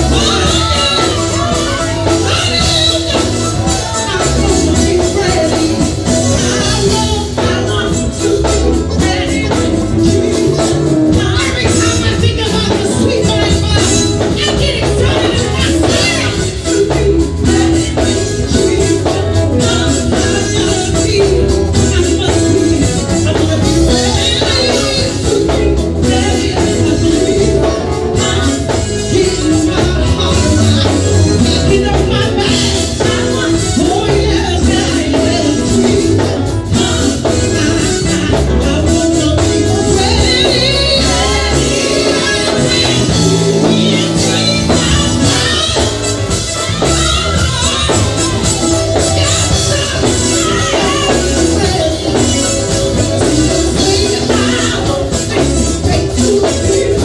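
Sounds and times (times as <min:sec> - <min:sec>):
band with guitars and drums: 0:00.0 - 0:57.0
women singing gospel: 0:00.0 - 0:57.0.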